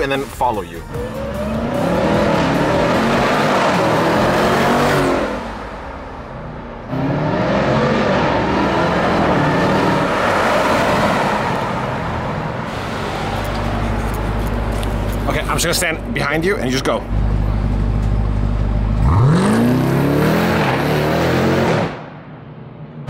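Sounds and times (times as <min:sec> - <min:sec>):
car engine accelerating hard: 0:01.0 - 0:05.8, 0:06.4 - 0:15.3, 0:17.1 - 0:22.0.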